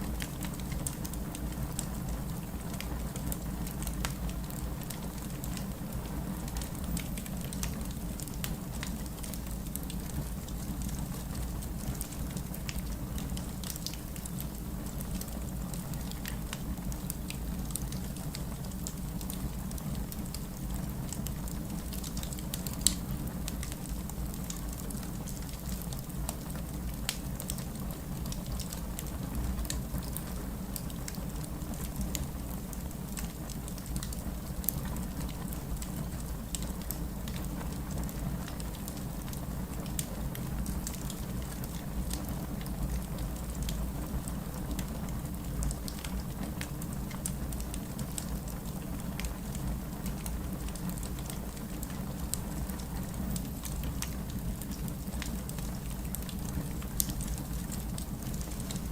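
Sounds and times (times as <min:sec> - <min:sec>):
fireplace crackling: 0:00.0 - 0:58.9
rain pattering: 0:00.0 - 0:58.9.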